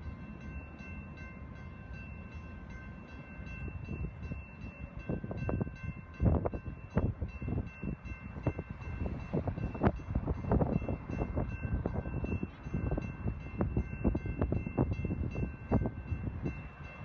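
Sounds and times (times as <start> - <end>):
crossing warning bell ringing: 0.0 - 17.0.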